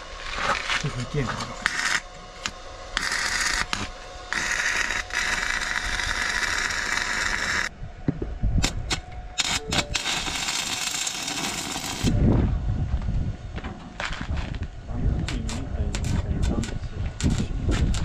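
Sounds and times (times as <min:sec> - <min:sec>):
welding arc crackling and hissing: 0:00.0 - 0:07.7, 0:08.6 - 0:12.2, 0:14.0 - 0:18.0.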